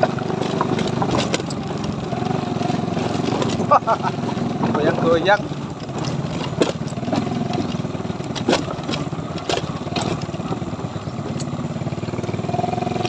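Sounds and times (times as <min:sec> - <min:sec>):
wooden planks knocking and rattling: 0:00.0 - 0:10.5
small motorcycle engine running: 0:00.0 - 0:13.0.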